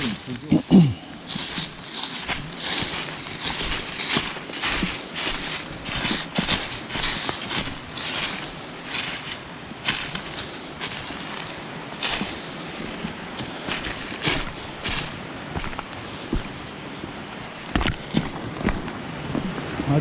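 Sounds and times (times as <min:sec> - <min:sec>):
footsteps crunching on dry leaves: 0:00.0 - 0:18.9.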